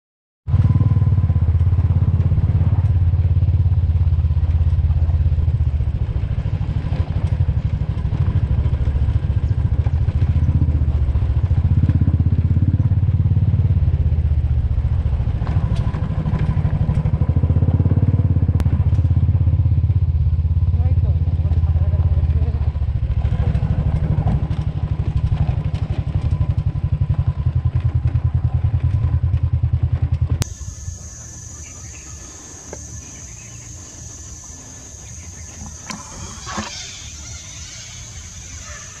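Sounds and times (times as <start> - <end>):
motorcycle engine running: 0.5 - 39.0.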